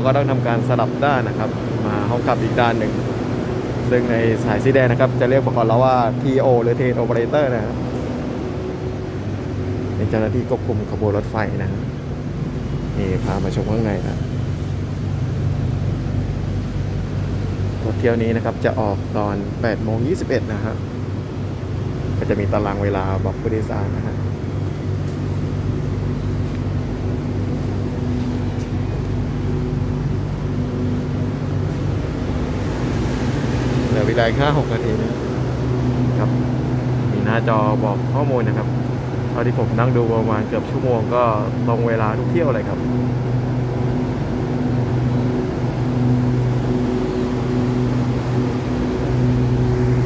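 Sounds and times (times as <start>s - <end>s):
electric train humming: 0.0s - 50.0s.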